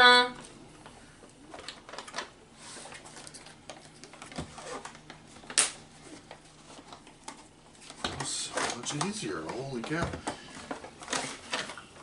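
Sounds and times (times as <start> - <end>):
plastic cups and packaging handled: 0.8 - 12.0.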